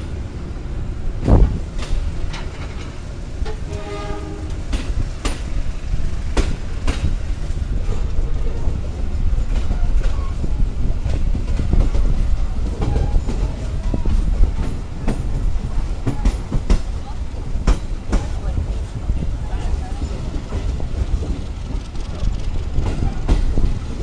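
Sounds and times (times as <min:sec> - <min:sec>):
train rumbling: 0:00.0 - 0:24.0
wheels clacking over rail joints: 0:01.2 - 0:24.0.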